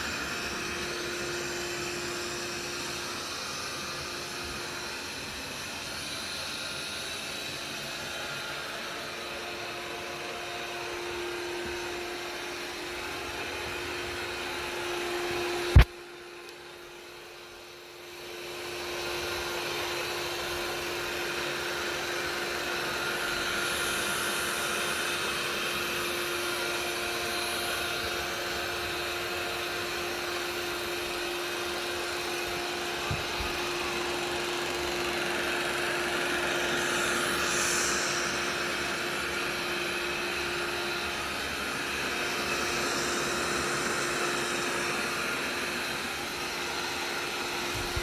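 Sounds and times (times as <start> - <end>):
small motor humming: 0.0 - 48.0.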